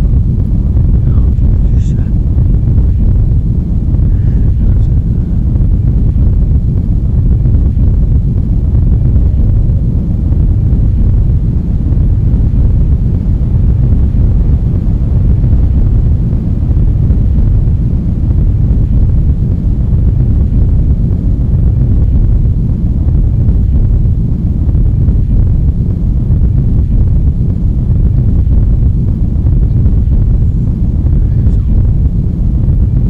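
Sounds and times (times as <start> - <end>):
loud low rumble: 0.0 - 33.0.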